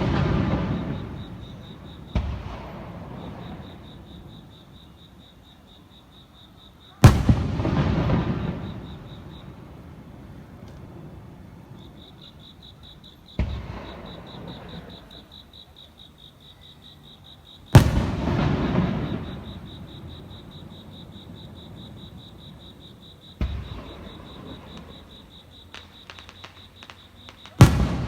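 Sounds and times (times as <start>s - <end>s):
fireworks bursting: 0.0s - 4.3s, 7.0s - 15.2s, 17.7s - 28.0s
insect chirping in fast pulses: 0.0s - 28.0s.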